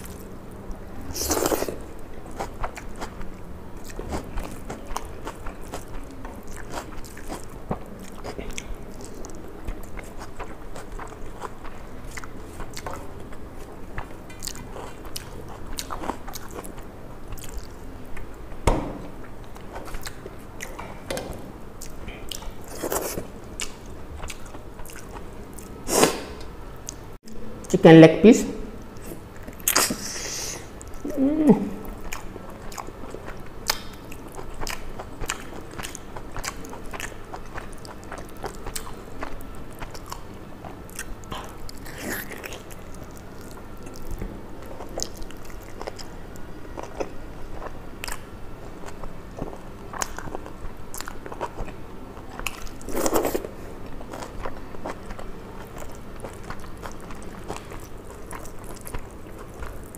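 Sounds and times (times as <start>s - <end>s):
crunching and chewing food: 0.0s - 18.5s, 19.2s - 21.0s, 21.8s - 27.1s, 31.8s - 59.9s.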